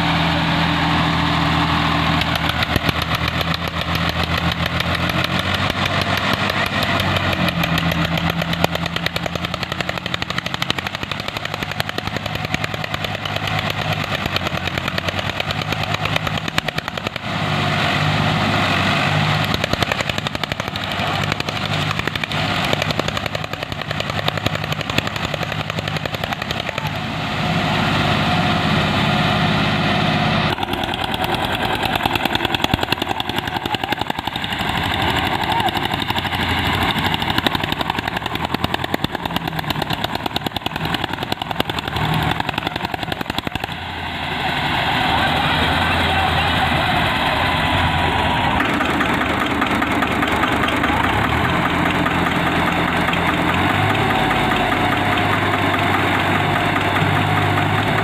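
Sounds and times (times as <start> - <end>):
tractor diesel engines under load: 0.0 - 58.0.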